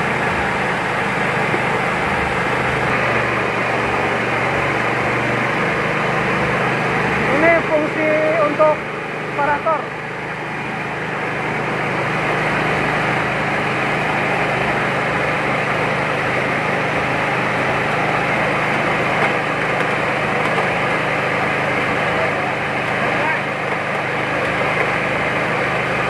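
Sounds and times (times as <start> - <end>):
rice huller machine hum: 0.0 - 26.0.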